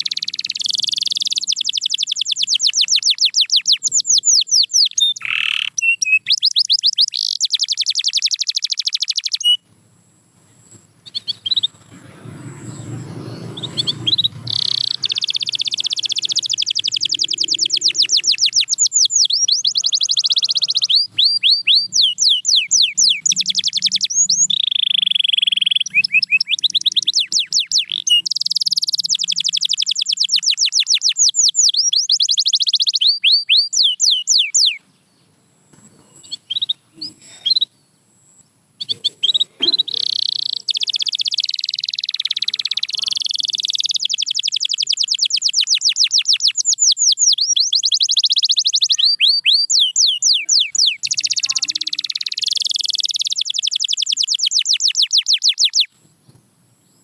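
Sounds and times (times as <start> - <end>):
canary singing trills: 0.0 - 9.6, 10.5 - 56.0.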